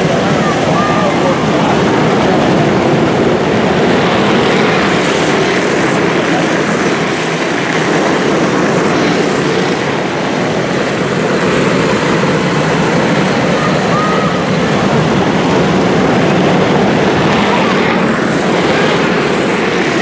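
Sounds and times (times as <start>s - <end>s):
karts racing: 0.0s - 20.0s.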